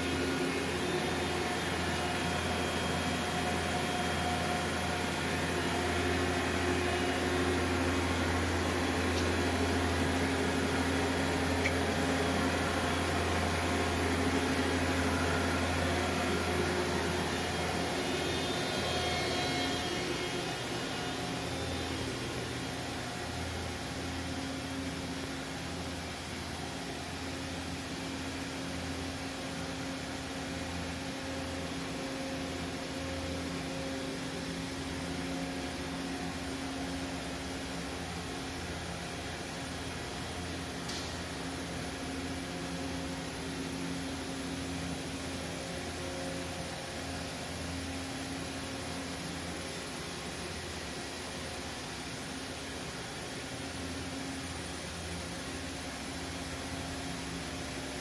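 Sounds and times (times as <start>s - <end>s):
machine electrical and fan drone: 0.0s - 58.0s.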